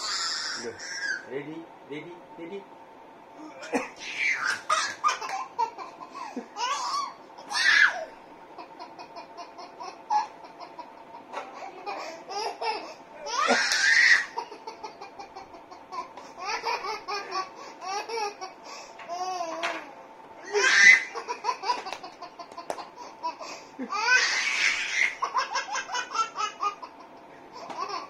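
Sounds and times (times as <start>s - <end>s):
baby laughing: 3.6s - 28.0s.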